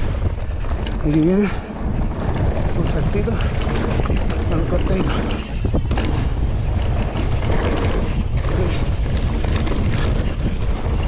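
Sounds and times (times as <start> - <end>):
bike rattling over rough ground: 0.0 - 11.0
wind buffeting microphone: 0.0 - 11.0.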